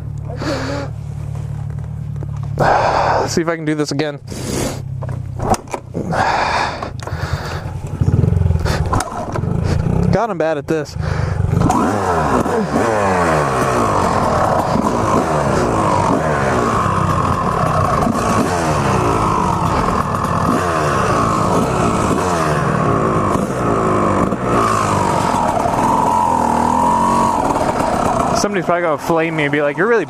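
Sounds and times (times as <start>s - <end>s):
dirt bike engine revving: 2.5s - 3.5s, 4.2s - 30.0s.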